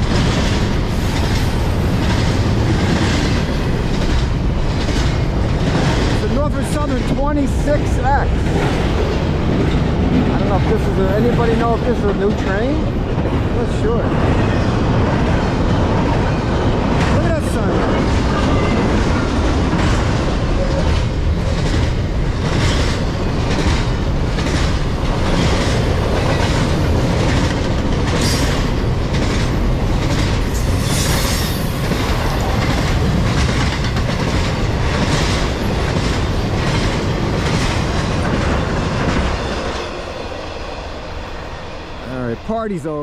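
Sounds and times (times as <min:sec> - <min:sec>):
rhythmic clickety-clack of wheels: 0:00.0 - 0:40.4
train wheels rumbling on rail: 0:00.0 - 0:43.0.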